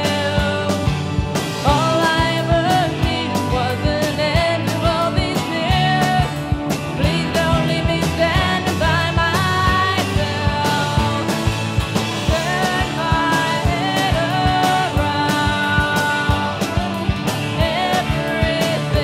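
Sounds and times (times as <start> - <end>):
indie rock music: 0.0 - 19.0
steady drum beat: 0.0 - 19.0.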